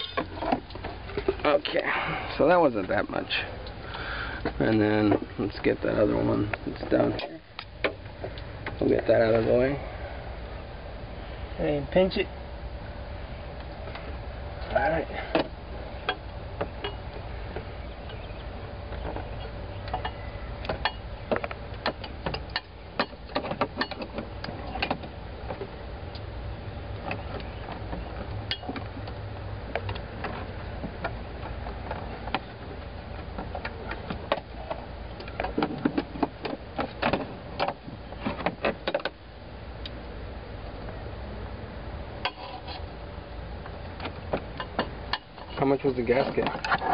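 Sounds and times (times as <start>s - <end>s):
low hum: 0.0s - 46.9s.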